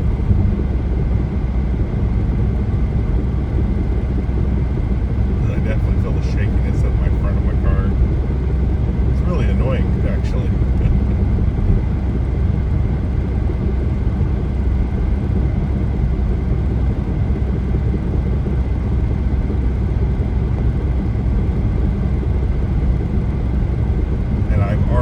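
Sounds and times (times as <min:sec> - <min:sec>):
car driving on highway: 0:00.0 - 0:25.0.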